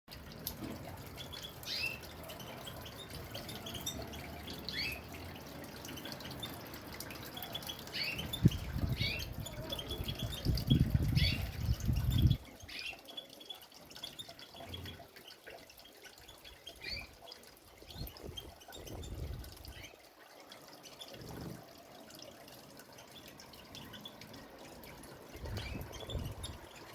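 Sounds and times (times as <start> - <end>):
birds chirping: 0.4 - 26.9.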